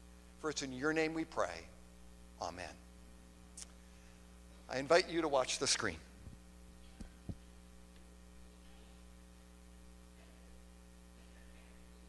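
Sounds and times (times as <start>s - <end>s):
low electrical mains hum: 0.0s - 12.0s.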